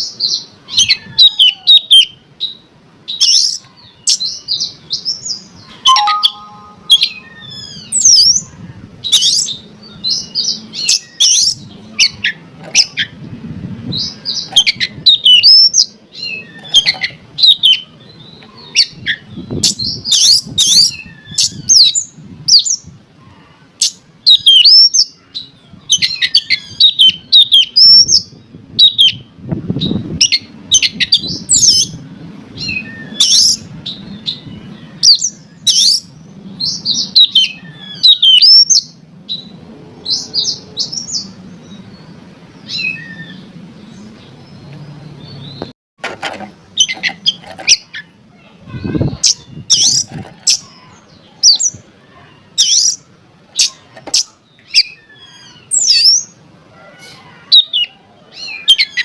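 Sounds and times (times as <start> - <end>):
magpie-robin singing: 0.0 - 13.2, 13.9 - 22.9, 23.8 - 32.0, 32.6 - 41.9, 46.7 - 48.2, 48.8 - 56.4, 57.5 - 59.0.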